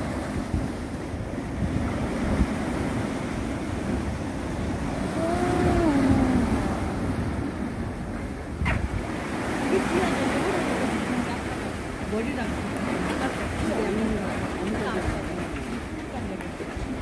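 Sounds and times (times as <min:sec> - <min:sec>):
sea waves washing on concrete: 0:00.0 - 0:17.0
wind on microphone: 0:00.0 - 0:17.0.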